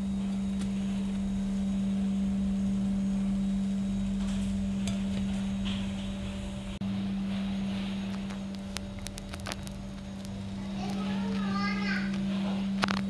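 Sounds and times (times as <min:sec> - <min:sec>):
low rumble: 0:00.0 - 0:13.0
steady low hum: 0:00.0 - 0:13.0.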